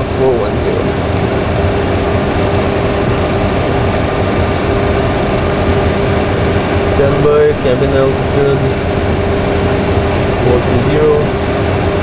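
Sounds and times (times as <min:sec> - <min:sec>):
constant hum: 0:00.0 - 0:12.0
ventilation fans whirring: 0:00.0 - 0:12.0.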